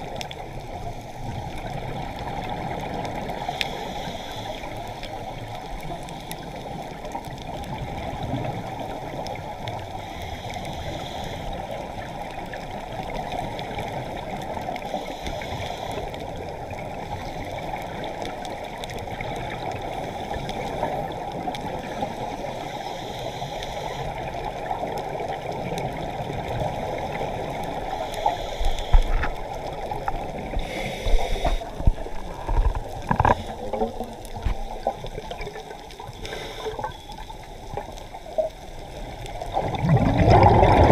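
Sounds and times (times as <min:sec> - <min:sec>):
muffled underwater water noise: 0:00.0 - 0:40.9
faint hiss: 0:02.6 - 0:07.6, 0:08.4 - 0:39.6.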